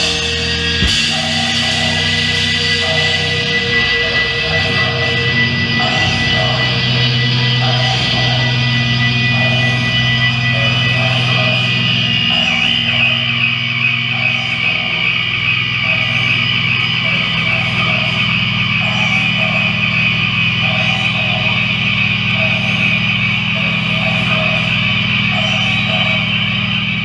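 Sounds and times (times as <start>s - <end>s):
distorted electric guitars droning: 0.0s - 27.0s.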